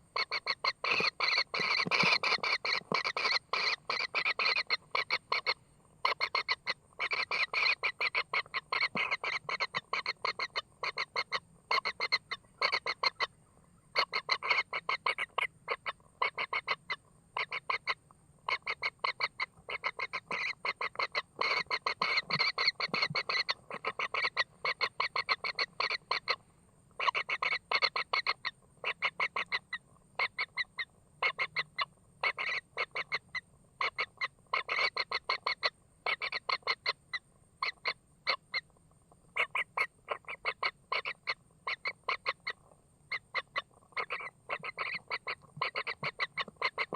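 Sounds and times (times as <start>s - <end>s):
harsh bird calls: 0.0s - 26.4s, 27.0s - 37.0s, 39.4s - 46.9s.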